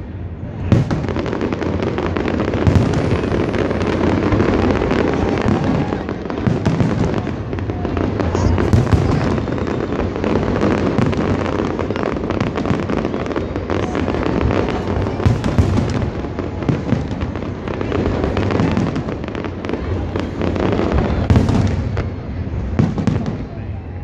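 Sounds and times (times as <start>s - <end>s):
firework booms and crackles: 0.0s - 24.0s.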